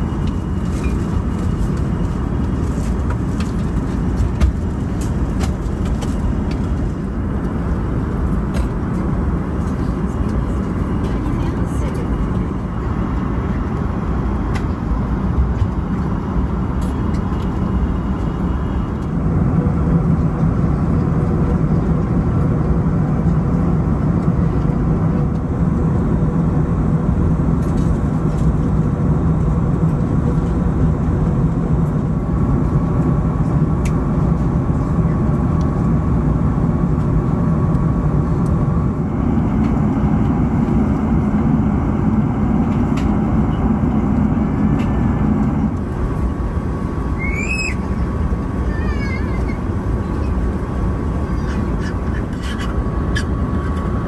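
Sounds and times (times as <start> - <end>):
aircraft cabin noise: 0.0 - 54.0.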